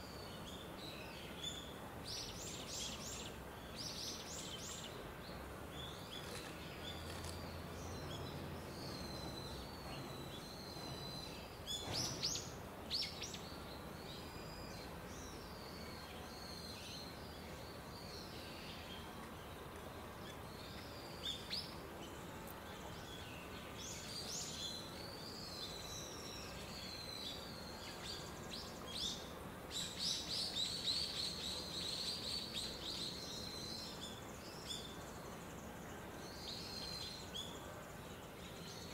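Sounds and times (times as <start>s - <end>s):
outdoor background hum: 0.0s - 38.9s
small birds chirping: 0.0s - 38.9s.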